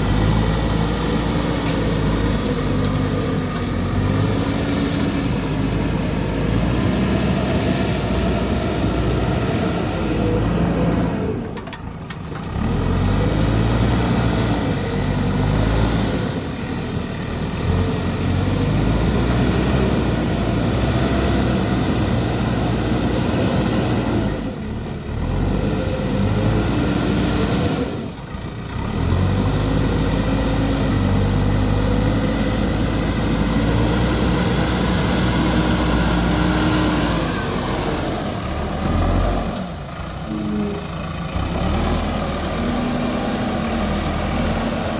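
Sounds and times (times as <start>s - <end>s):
diesel engine running under load: 0.0s - 44.9s.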